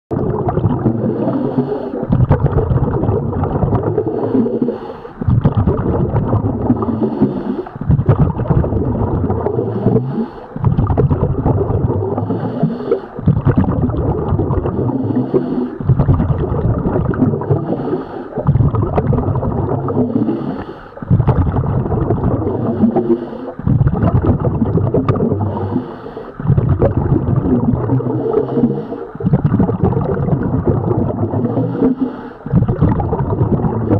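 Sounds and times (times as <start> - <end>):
bubbling exhalation underwater: 0.1 - 33.9.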